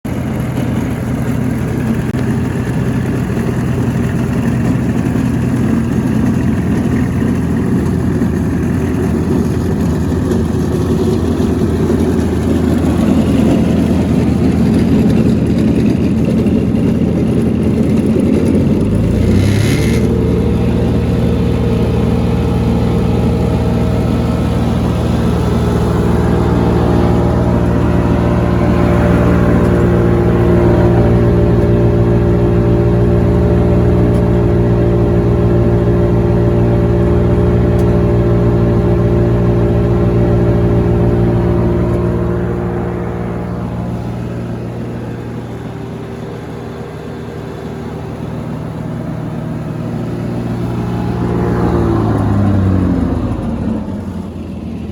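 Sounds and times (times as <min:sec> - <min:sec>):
wood chipper diesel engine running: 0:00.0 - 0:54.9.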